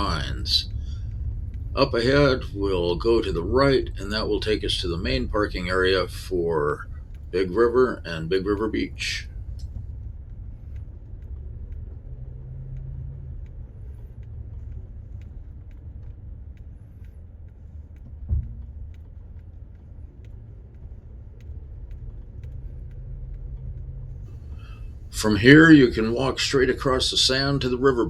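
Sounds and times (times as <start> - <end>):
car engine and road rumble: 0.0 - 28.0
faint ticks: 0.0 - 28.0.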